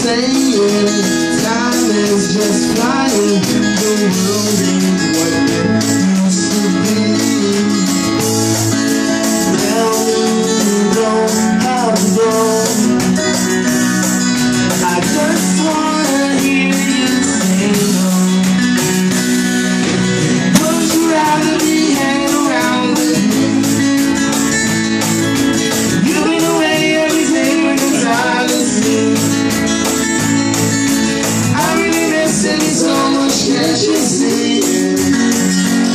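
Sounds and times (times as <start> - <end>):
acoustic guitar strumming: 0.0 - 35.9
bass guitar: 0.0 - 35.9
drums: 0.0 - 35.9.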